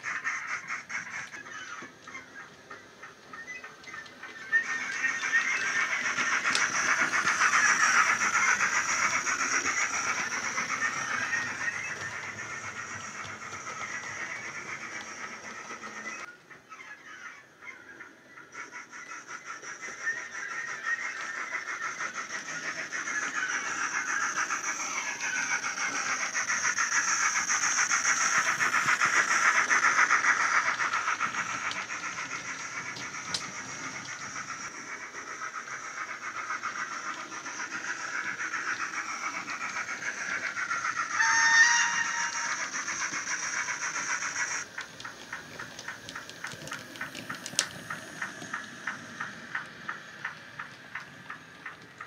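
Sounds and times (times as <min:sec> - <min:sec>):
model locomotive chuffs and steam hiss: 0:00.0 - 0:52.0.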